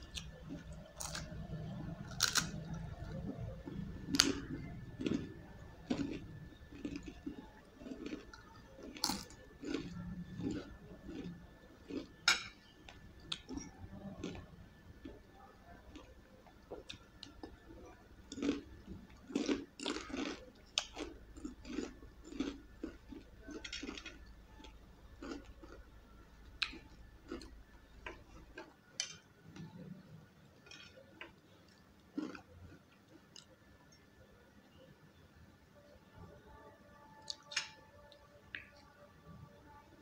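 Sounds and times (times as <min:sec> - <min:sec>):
crunching and chewing crisp snack: 0:00.0 - 0:34.0, 0:37.0 - 0:39.0.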